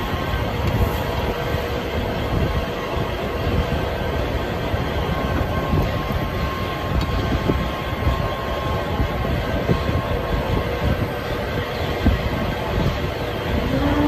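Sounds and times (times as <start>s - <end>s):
faint hums: 0.0s - 14.0s
mechanical rumble: 0.0s - 14.0s.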